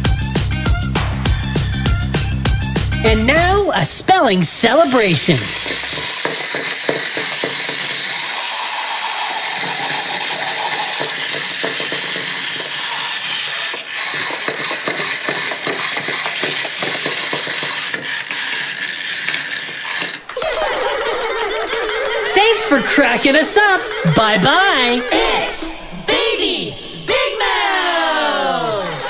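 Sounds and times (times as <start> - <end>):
clockwork toys whirring and clicking: 3.1 - 29.0.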